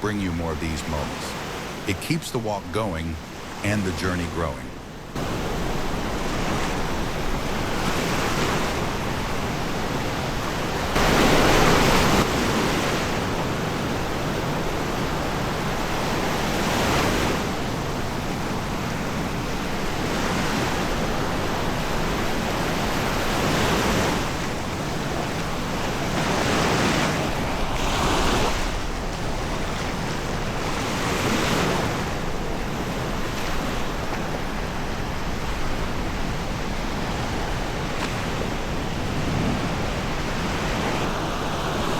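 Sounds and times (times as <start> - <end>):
waves breaking on beach: 0.0 - 41.9.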